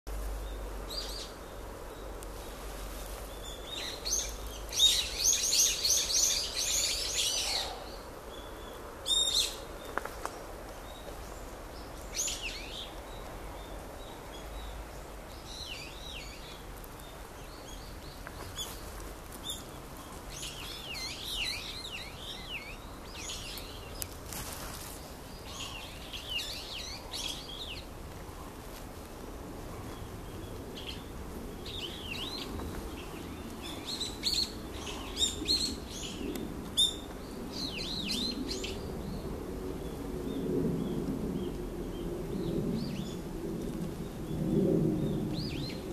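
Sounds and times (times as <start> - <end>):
songbirds singing: 0.1 - 45.9.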